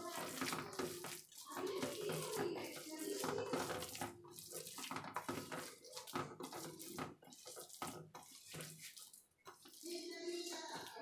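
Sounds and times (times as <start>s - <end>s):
hand mixing wet batter: 0.0s - 11.0s
scraping against metal bowl: 0.0s - 11.0s.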